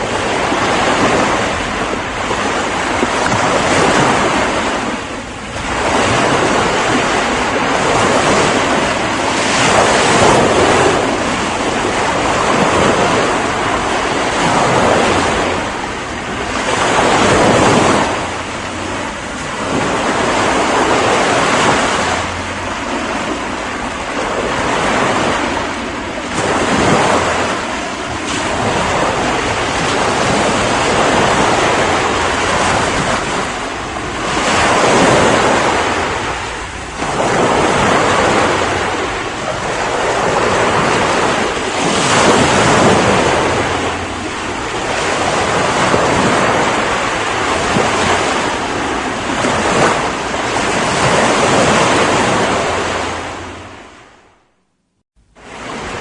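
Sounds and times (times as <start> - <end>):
ocean waves breaking on shore: 0.0 - 54.6, 55.2 - 56.0.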